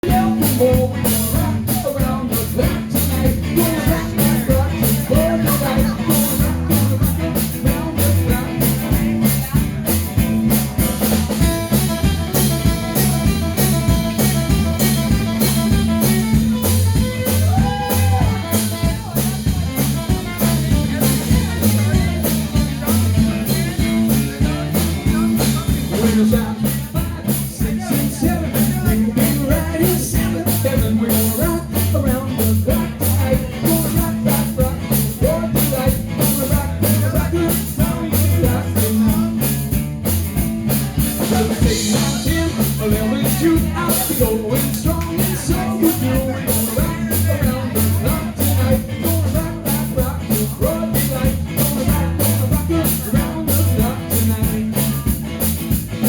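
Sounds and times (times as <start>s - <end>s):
band playing blues-rock: 0.0s - 56.0s
drum kit steady beat: 0.0s - 56.0s.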